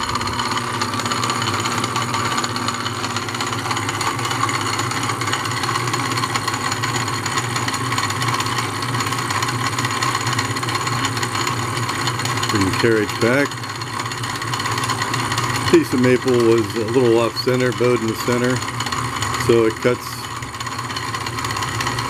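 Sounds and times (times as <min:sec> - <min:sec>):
belt-driven lathe running: 0:00.0 - 0:22.0
spindle clatter: 0:00.0 - 0:22.0.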